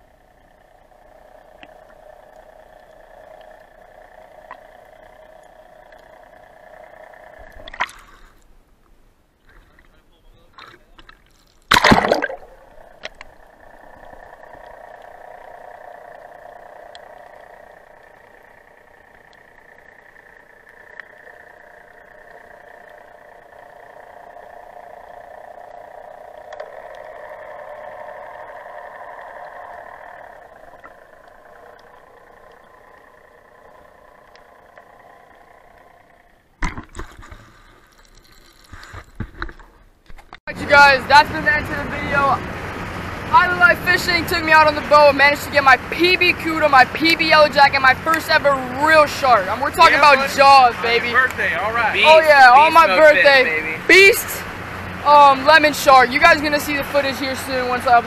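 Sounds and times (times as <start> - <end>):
dull underwater drone: 0.0 - 58.0.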